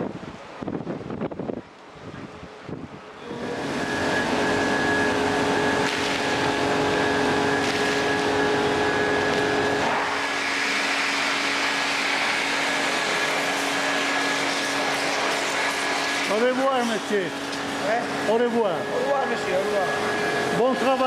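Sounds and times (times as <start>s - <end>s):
pump motor humming: 3.0s - 21.0s
pressure washer spraying water: 3.2s - 21.0s.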